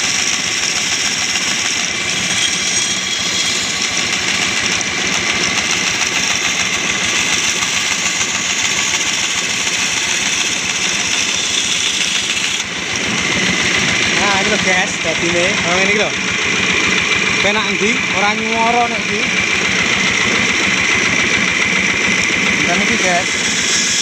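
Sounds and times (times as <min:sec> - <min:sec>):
bandsaw cutting wood: 0:00.0 - 0:24.0.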